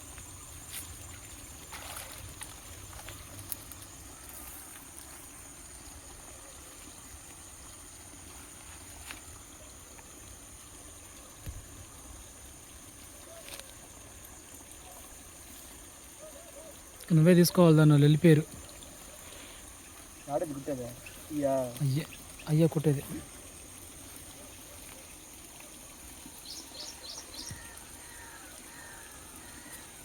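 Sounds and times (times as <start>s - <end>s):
trickle of flowing water: 0.0s - 30.0s.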